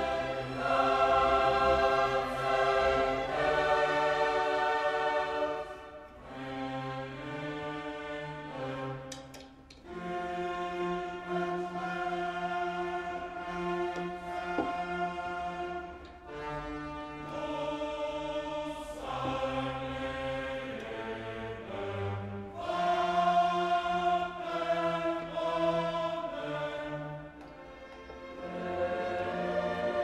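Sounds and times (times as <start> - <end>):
choral and orchestral chords: 0.0 - 30.0.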